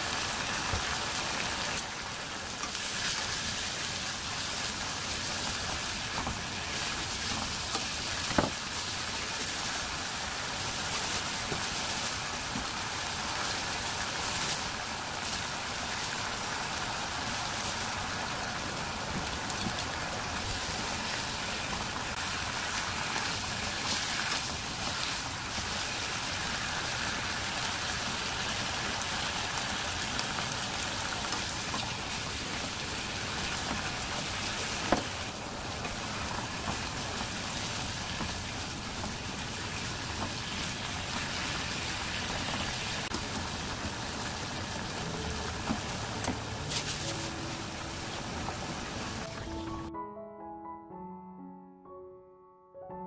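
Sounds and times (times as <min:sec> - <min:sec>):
food sizzling in a pan: 0:00.0 - 0:49.4.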